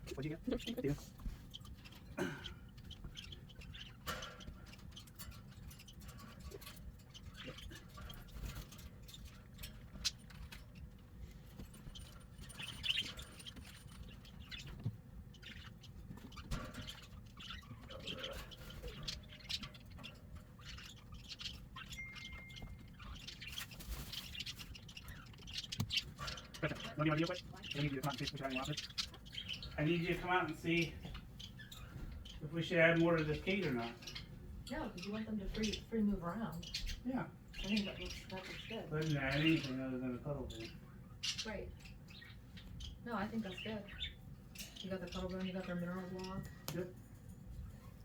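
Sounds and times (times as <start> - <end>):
cockatiels chirping and squawking: 0.0 - 48.0.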